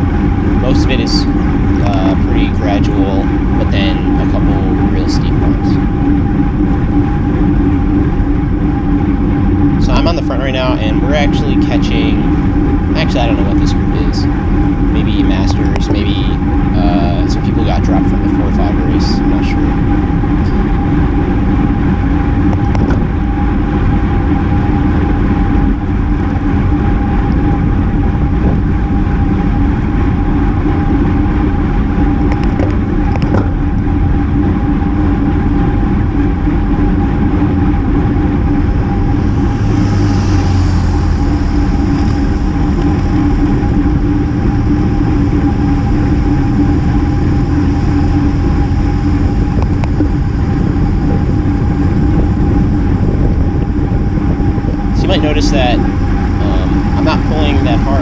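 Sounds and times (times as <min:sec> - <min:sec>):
low hum: 0:00.0 - 0:58.0
wind rushing over microphone: 0:00.0 - 0:58.0.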